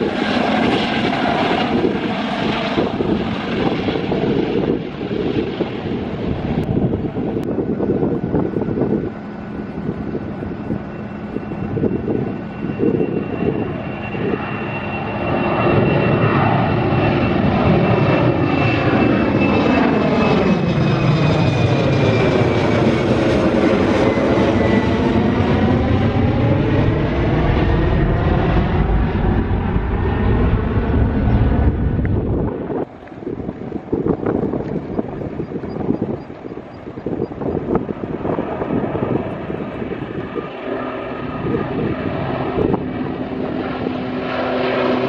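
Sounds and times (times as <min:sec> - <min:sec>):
jet airliner taking off overhead: 0:00.0 - 0:45.0
jet engine high whine: 0:00.0 - 0:45.0.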